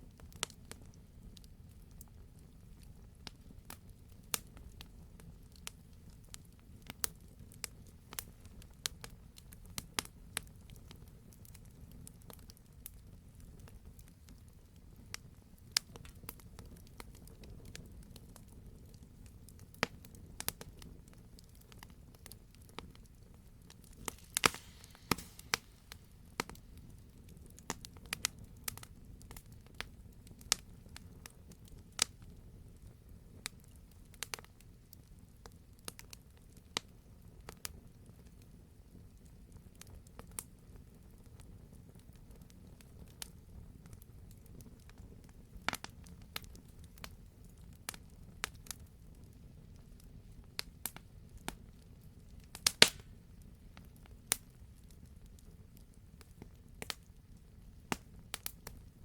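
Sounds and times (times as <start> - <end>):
low fire rumble: 0.0 - 59.0
wood fire crackling: 0.0 - 59.0.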